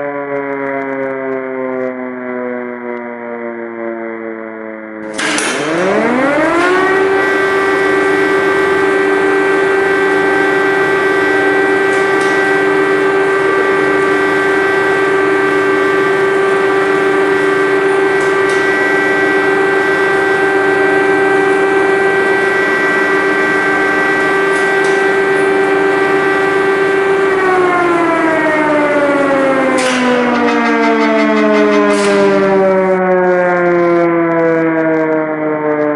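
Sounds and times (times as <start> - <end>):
air-raid siren: 0.0 - 35.9.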